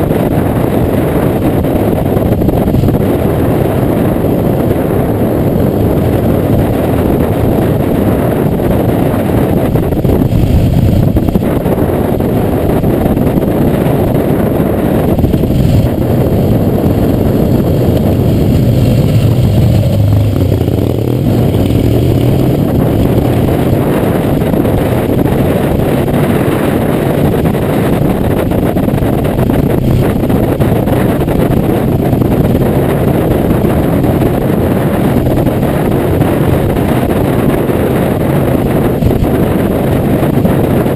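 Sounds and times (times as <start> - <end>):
motorcycle engine riding: 0.0 - 40.9
wind noise on microphone: 0.0 - 40.9.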